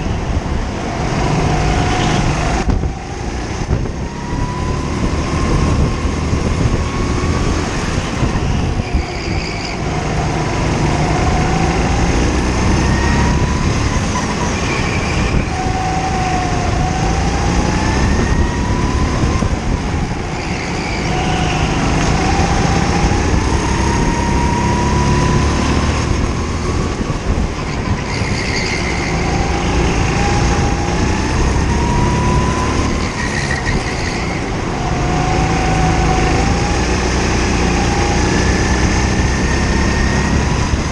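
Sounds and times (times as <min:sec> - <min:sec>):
kart engine accelerating: 0:00.6 - 0:40.9.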